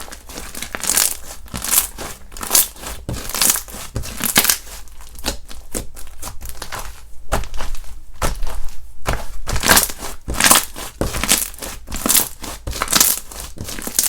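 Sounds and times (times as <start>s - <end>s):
slime squelching by hand: 0.0s - 14.0s.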